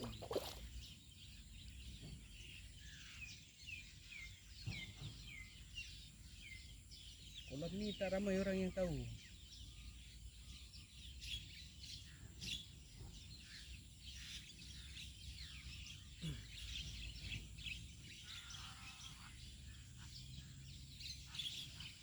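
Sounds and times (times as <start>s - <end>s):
wild birds chirping: 0.0s - 22.0s.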